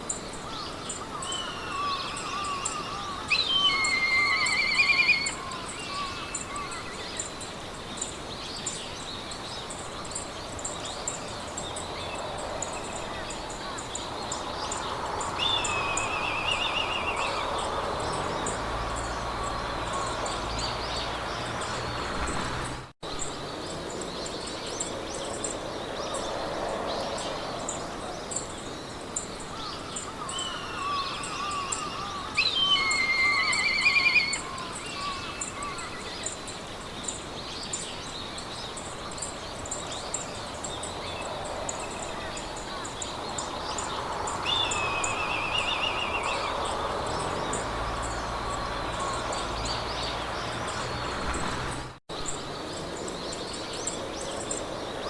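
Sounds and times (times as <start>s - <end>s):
soft wind hiss: 0.0s - 55.0s
wild birds singing: 0.0s - 55.0s.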